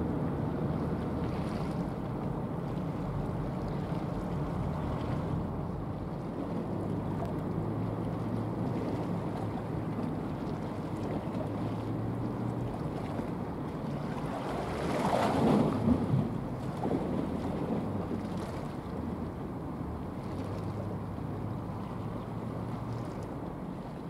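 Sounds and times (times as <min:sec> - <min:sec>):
boat engine drone: 0:00.0 - 0:24.0.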